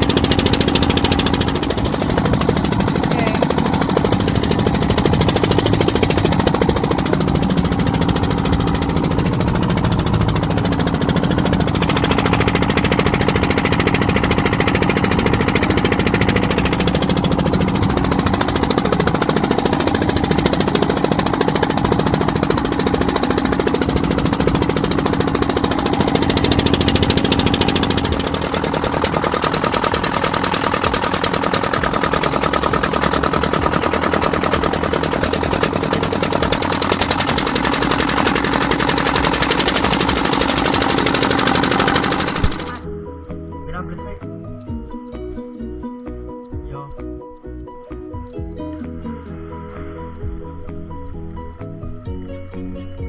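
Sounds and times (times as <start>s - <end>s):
boat engine knocking steadily: 0.0s - 43.0s.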